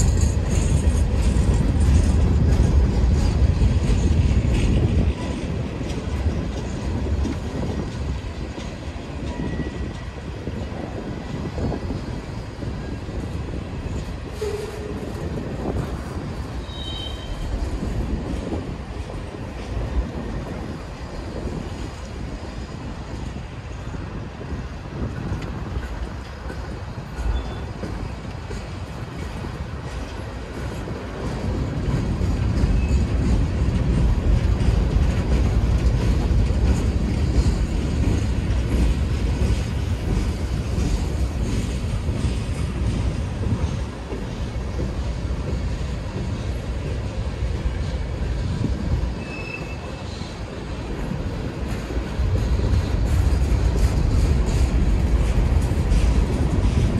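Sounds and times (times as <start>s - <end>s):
freight train wheels rumbling: 0.0s - 56.9s.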